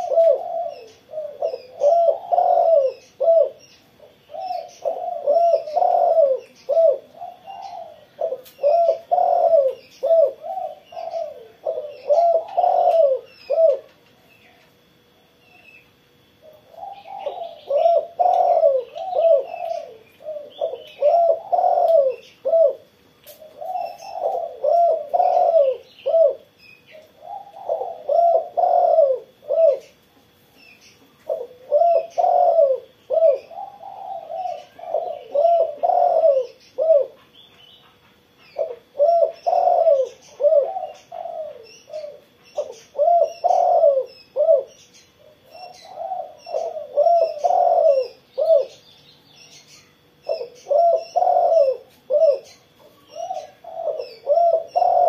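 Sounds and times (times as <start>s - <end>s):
dove cooing: 0.0s - 48.8s, 49.5s - 55.0s
small birds chirping: 0.0s - 55.0s.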